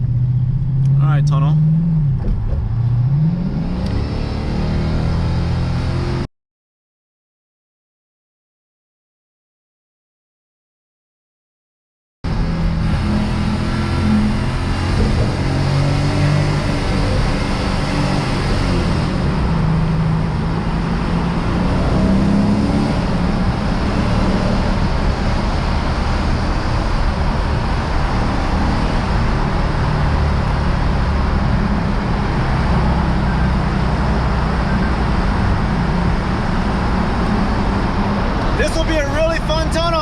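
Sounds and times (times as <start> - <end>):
car engine cruising: 0.0 - 6.3, 12.3 - 40.0
road and tyre noise: 0.0 - 6.3, 12.2 - 40.0.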